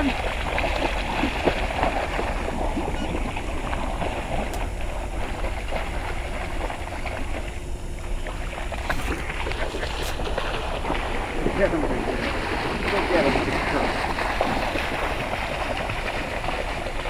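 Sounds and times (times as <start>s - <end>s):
dog splashing through river: 0.0s - 7.5s, 8.2s - 17.0s
wind rumbling on microphone: 0.0s - 17.0s.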